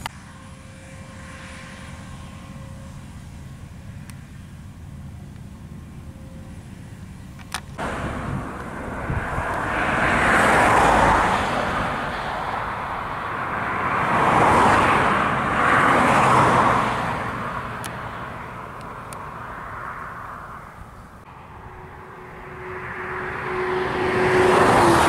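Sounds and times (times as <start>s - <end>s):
combine harvester mechanical rush: 0.0s - 25.0s.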